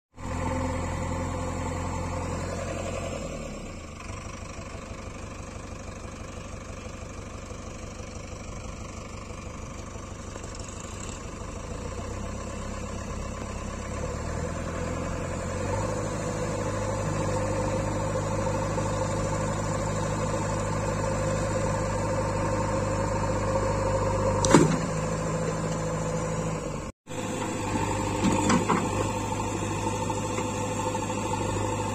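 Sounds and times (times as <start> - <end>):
diesel engine running: 0.2 - 31.9.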